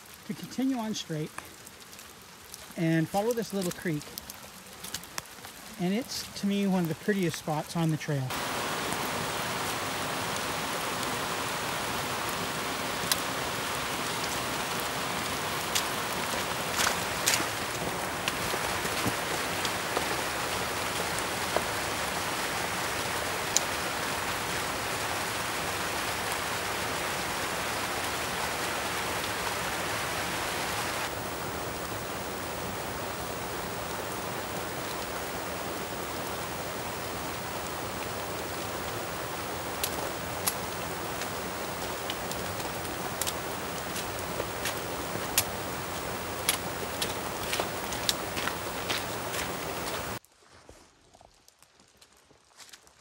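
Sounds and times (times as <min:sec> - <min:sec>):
steady rain on forest: 0:00.0 - 0:53.0.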